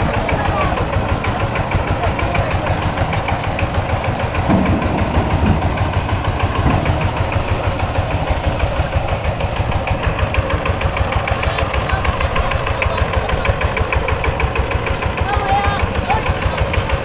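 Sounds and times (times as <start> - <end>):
diesel engine pulsing steadily: 0.0 - 17.0.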